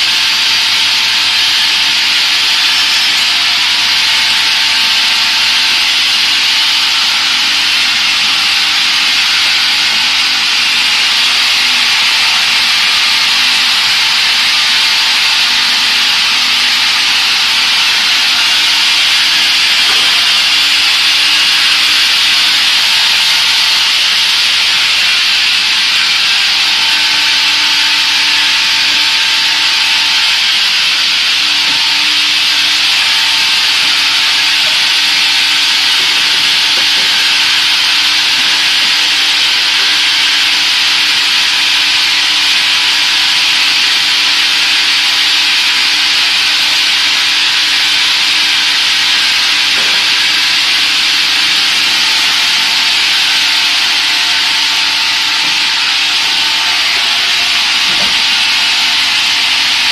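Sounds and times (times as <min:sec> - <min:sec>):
saw cutting through wood: 0:00.0 - 0:59.9.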